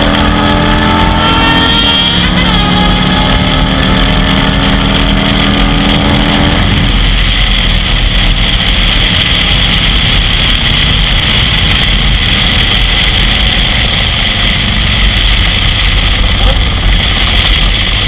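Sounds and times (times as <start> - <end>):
motorcycle engine: 0.0 - 18.0
wind rushing on microphone: 0.0 - 18.0.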